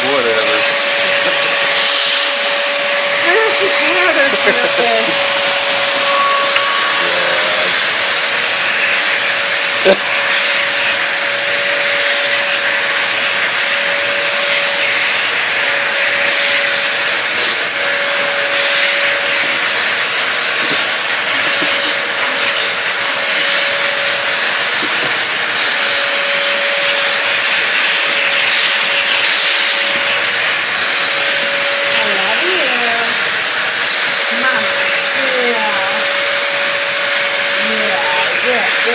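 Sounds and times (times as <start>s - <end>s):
vacuum cleaner droning: 0.0s - 38.9s.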